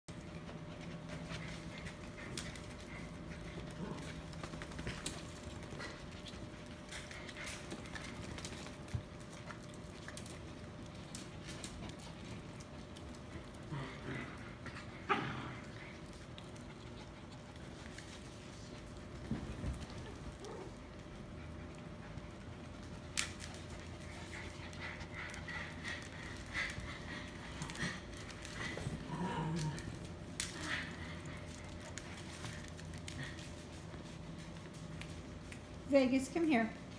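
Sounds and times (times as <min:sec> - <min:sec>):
puppies' paws clicking and tapping: 0:00.1 - 0:36.9.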